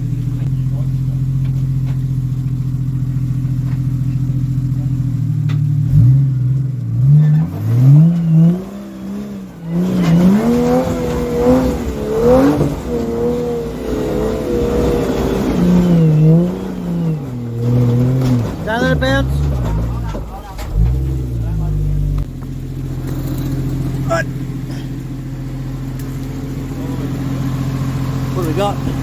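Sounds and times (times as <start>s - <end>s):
engine idling and revving: 0.0s - 29.0s.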